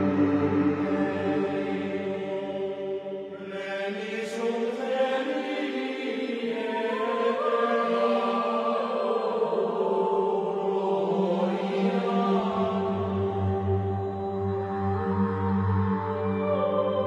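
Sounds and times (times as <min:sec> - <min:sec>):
chant-like vocal tones: 0:00.0 - 0:17.0.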